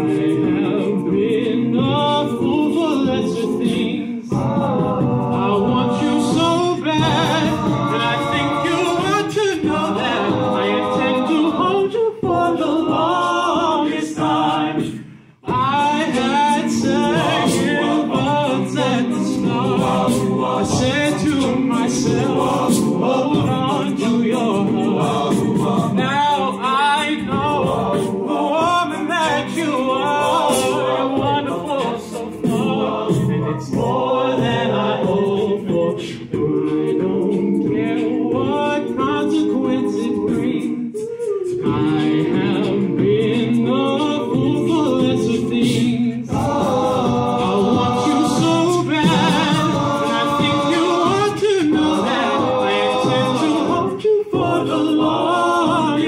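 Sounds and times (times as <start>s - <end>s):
a cappella group singing: 0.0s - 56.0s.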